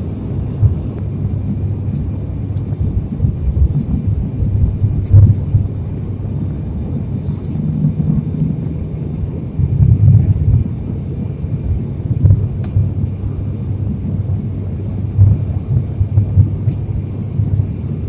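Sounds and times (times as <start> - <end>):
jet engines and airflow rumble: 0.0 - 18.0.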